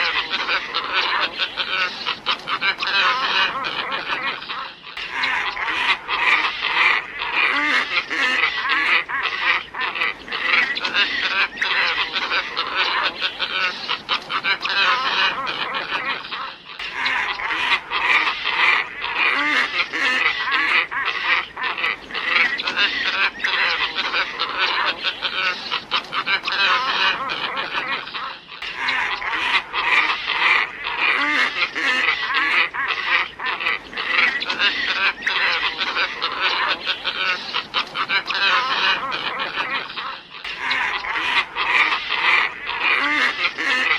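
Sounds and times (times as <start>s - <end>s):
flock of birds calling: 0.0s - 43.9s.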